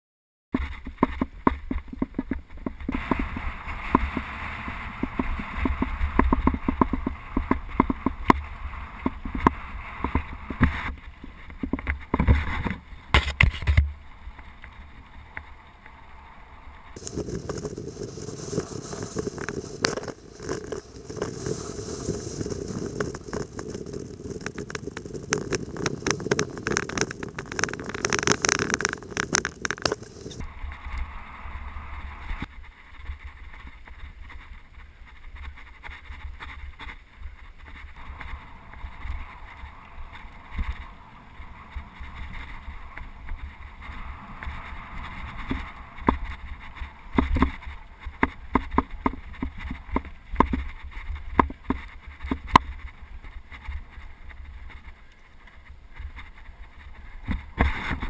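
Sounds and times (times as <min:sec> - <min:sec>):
bike tyres rumbling on dirt trail: 0:00.6 - 0:58.0.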